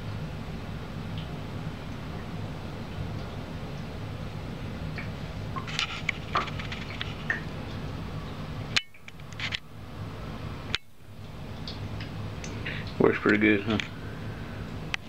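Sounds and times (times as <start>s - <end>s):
humidifier humming: 0.0s - 15.0s.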